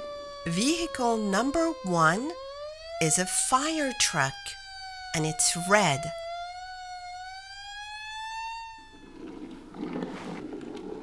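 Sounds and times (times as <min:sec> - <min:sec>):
fire truck siren wailing: 0:00.0 - 0:09.4.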